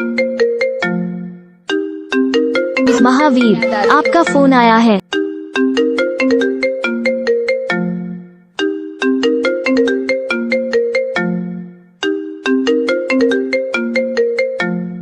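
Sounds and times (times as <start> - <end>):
phone ringtone melody: 0.0 - 15.0.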